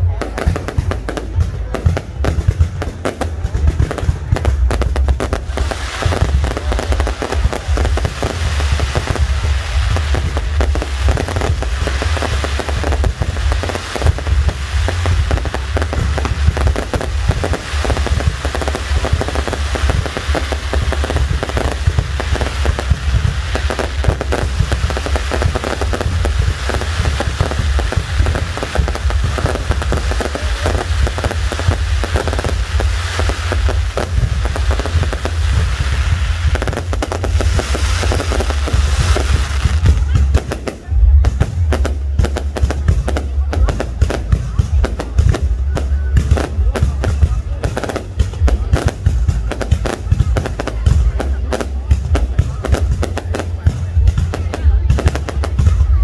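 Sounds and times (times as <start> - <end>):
deep rumble of fireworks booms: 0.0 - 56.0
fireworks crackling pops and bangs: 0.0 - 56.0.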